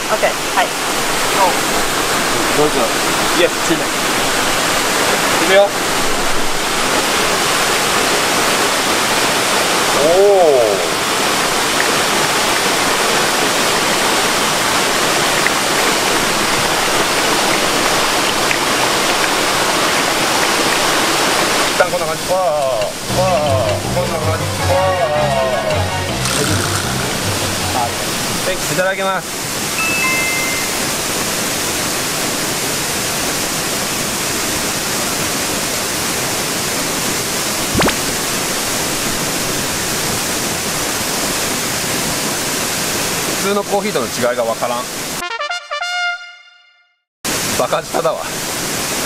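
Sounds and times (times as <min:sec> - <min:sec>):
waterfall roaring: 0:00.0 - 0:45.2, 0:47.3 - 0:49.0.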